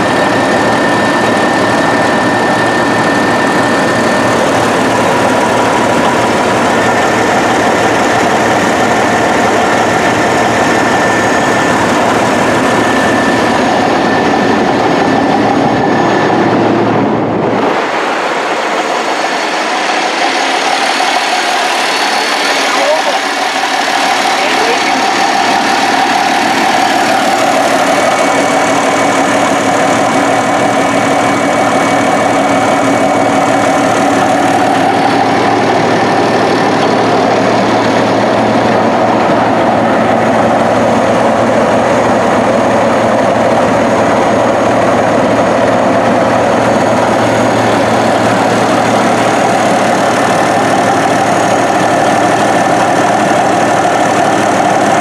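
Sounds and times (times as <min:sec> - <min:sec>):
bulldozer diesel engine idling: 0:00.0 - 0:17.5, 0:18.6 - 0:55.0.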